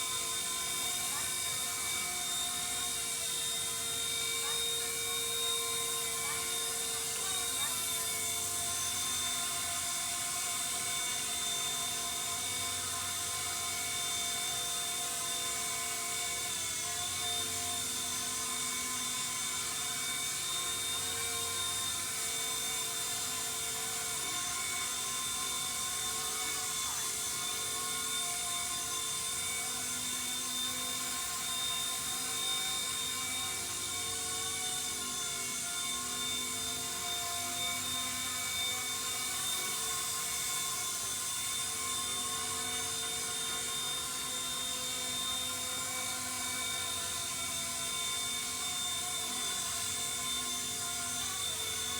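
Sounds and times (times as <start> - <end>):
model helicopter whine: 0.0 - 51.9.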